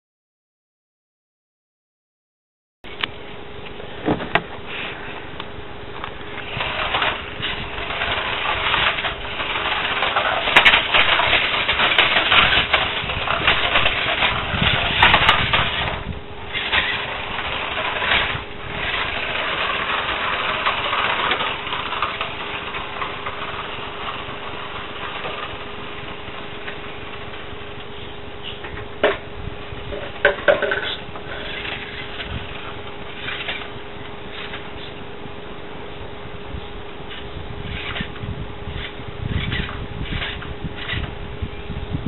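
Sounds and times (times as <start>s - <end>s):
toy car motor and tyres on paving: 4.6s - 35.1s, 37.0s - 42.0s.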